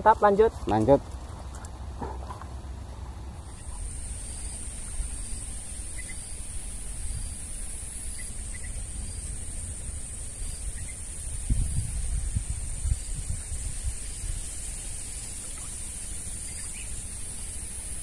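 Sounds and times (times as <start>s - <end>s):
high-pitched insect buzz: 3.4s - 18.0s.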